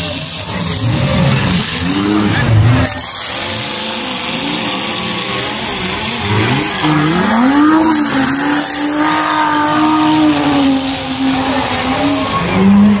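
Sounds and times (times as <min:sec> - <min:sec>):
race vehicle engine revving: 0:00.0 - 0:13.0.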